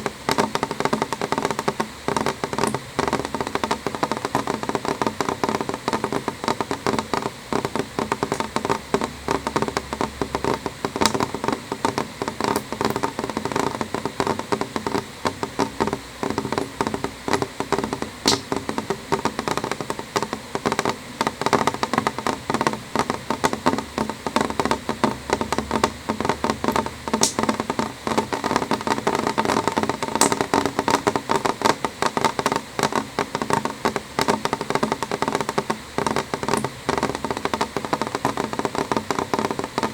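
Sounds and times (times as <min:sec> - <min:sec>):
raindrops hitting window: 0:00.0 - 0:39.9.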